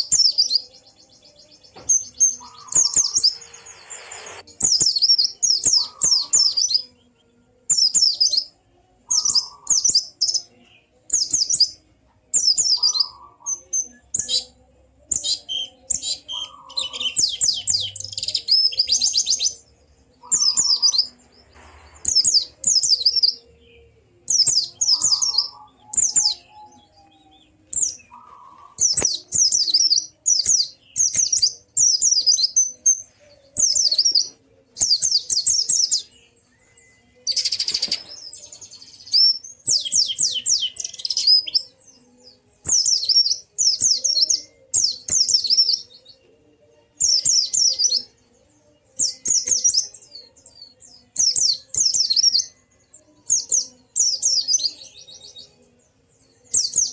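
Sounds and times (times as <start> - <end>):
bird chirping trills: 0.0 - 56.9.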